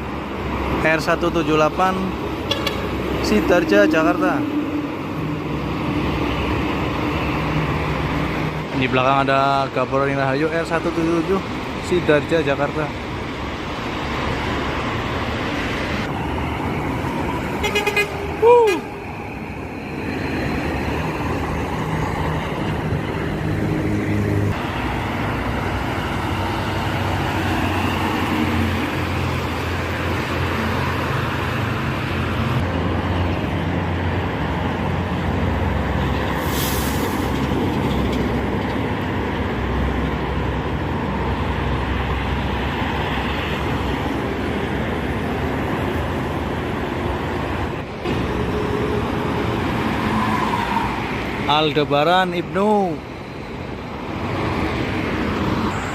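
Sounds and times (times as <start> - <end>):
buses and trucks passing: 0.0 - 55.9.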